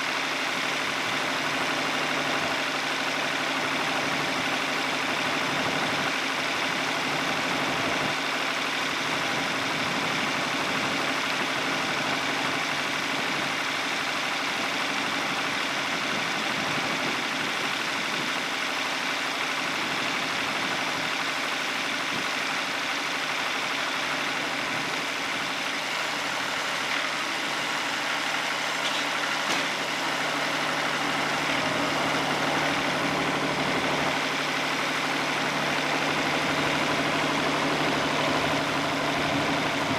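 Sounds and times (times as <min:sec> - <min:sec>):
sawmill engine idling: 0:00.0 - 0:39.9.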